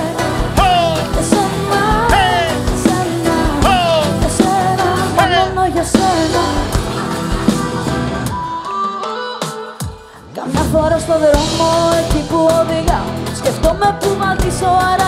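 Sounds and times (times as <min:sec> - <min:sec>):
live pop band playing: 0:00.0 - 0:15.0
person singing: 0:00.0 - 0:15.0.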